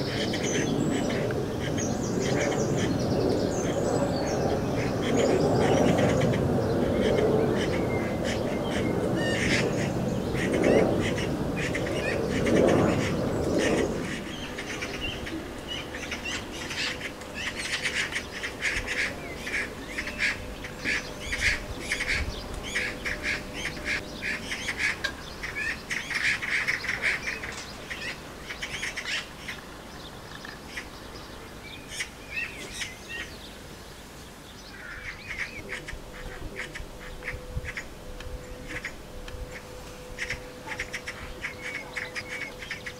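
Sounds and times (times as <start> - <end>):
magpies chattering: 0.0 - 29.6, 34.7 - 38.0, 38.6 - 42.9
low rumbling noise: 0.0 - 42.9.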